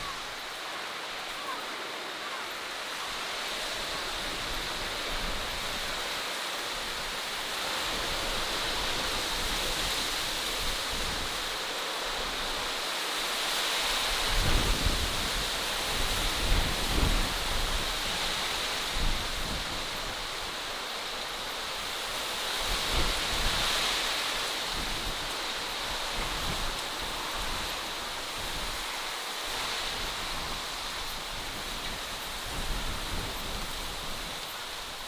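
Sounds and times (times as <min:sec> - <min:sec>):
rushing outdoor hiss: 0:00.0 - 0:35.0.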